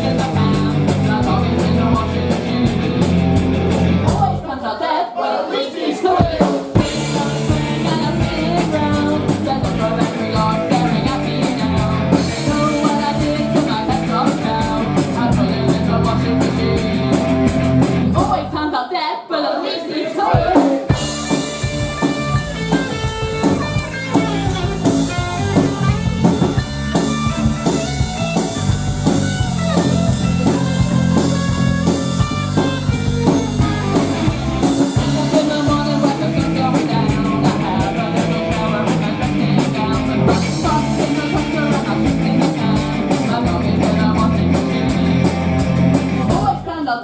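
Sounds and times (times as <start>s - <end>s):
drum kit beat: 0.0s - 4.4s, 6.1s - 18.5s, 20.1s - 46.7s
electric guitar: 0.0s - 4.4s, 6.8s - 18.4s, 20.9s - 46.6s
bass guitar: 0.0s - 4.5s, 6.8s - 18.6s, 20.9s - 46.7s.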